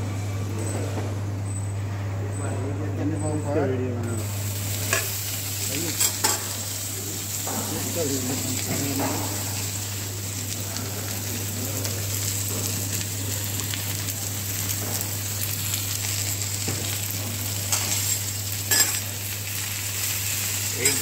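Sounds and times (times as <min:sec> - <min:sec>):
vegetables sizzling on griddle: 0:04.2 - 0:21.0.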